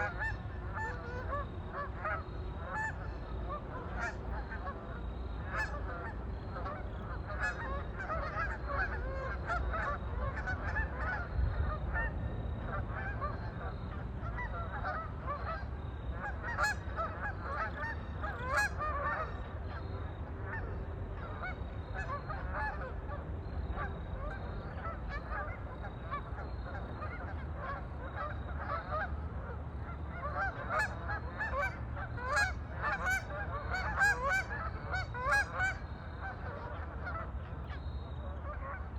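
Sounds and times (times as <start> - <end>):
waterfowl honking: 0.0 - 38.9.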